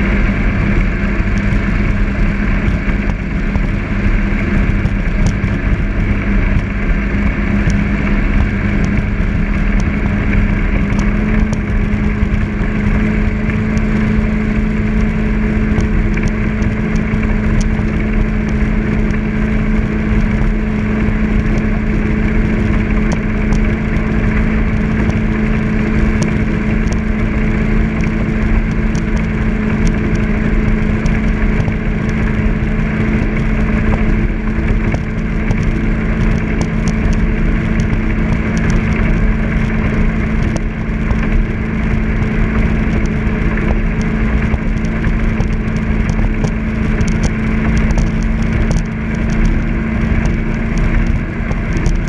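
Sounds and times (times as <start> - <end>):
boat engine droning: 0.0 - 52.0
rushing water noise: 0.0 - 52.0.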